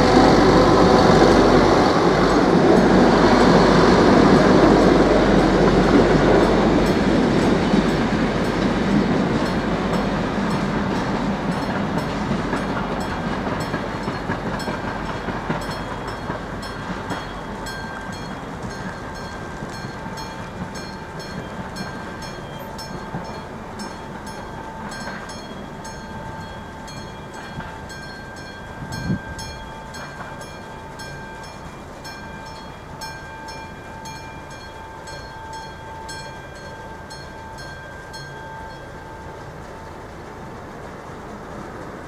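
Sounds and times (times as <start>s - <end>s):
level-crossing warning bell ringing: 0.0s - 41.6s.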